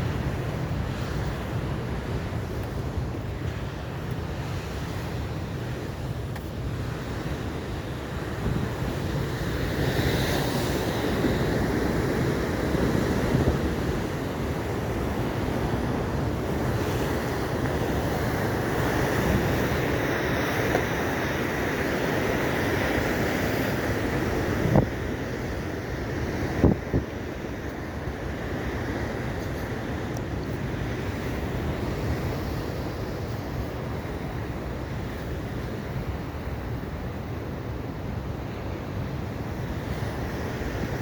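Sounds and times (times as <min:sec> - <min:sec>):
ocean surf breaking: 0:00.0 - 0:41.0
wind rumbling on microphone: 0:00.0 - 0:41.0.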